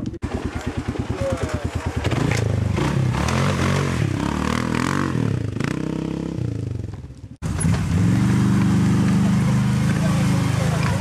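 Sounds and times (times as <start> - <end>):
quad engine at steady revs: 0.0 - 11.0
quad engine revving: 0.2 - 6.8, 7.4 - 11.0.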